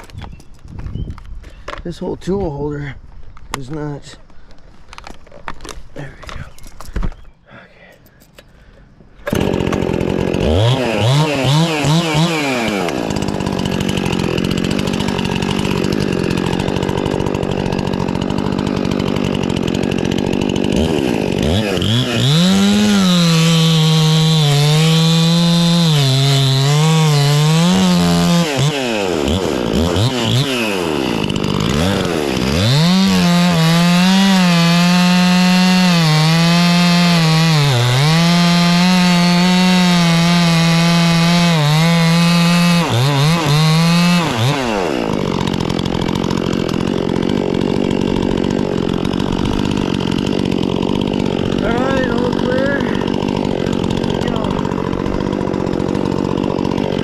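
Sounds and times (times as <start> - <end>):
chainsaw revving: 9.2 - 57.0.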